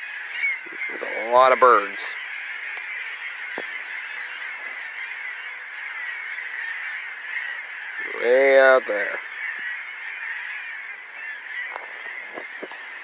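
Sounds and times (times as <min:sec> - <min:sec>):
flock of gulls calling: 0:00.0 - 0:13.0.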